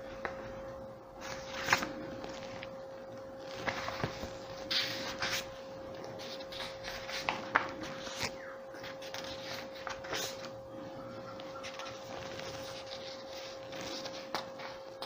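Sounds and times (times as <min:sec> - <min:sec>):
faint steady whine: 0:00.0 - 0:15.0
steady hum: 0:00.0 - 0:15.0.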